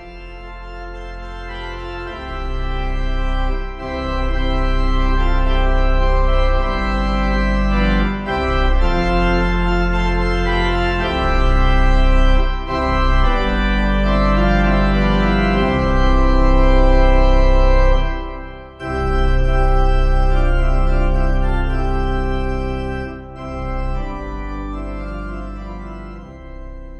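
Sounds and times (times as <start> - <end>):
slow organ-like keyboard chords: 0.0 - 26.9.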